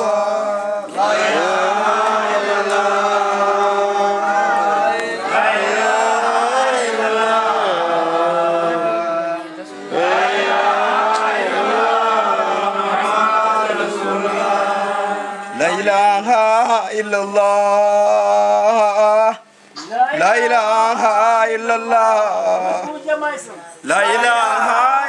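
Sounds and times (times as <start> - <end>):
men chanting: 0.0 - 19.5, 20.1 - 23.0, 23.9 - 25.0.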